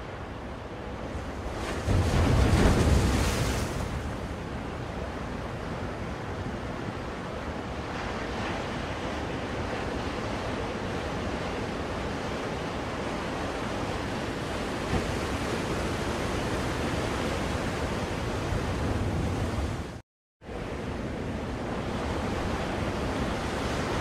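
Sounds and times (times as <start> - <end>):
ocean waves washing on shore: 0.0 - 24.0.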